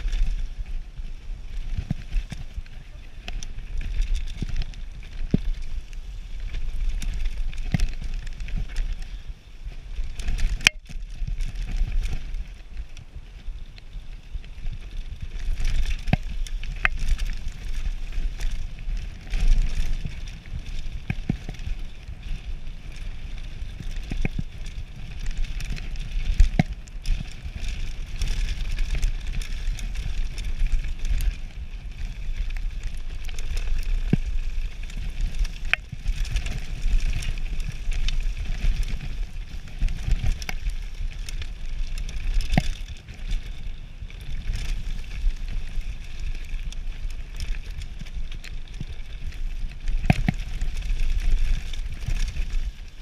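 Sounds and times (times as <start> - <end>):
bike rattling over bumps: 0.0 - 53.0
bike tyres on dirt and stones: 0.0 - 53.0
wind rumble on microphone: 0.0 - 53.0.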